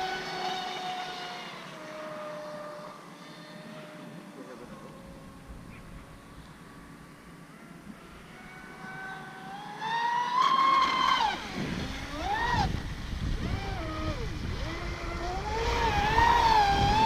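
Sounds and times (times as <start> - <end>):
hull hissing on water: 0.0 - 17.0
rc boat motor whining: 0.0 - 17.0.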